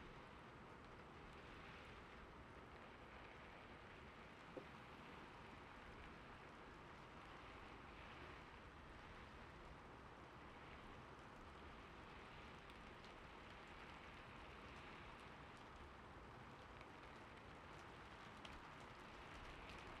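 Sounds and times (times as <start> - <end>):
gentle rain hiss: 0.0 - 20.0.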